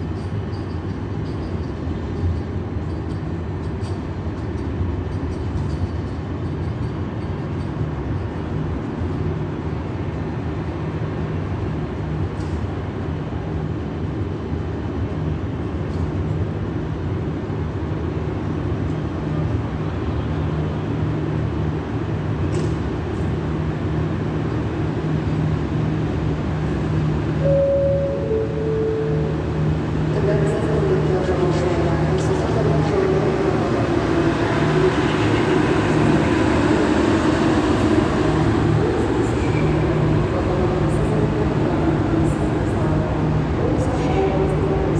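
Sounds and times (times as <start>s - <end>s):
electric locomotive hum and rumble: 0.0s - 44.9s.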